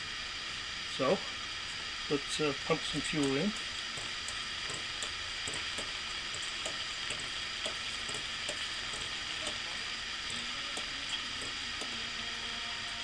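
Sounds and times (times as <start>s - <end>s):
siphon pump hissing: 0.0s - 13.0s.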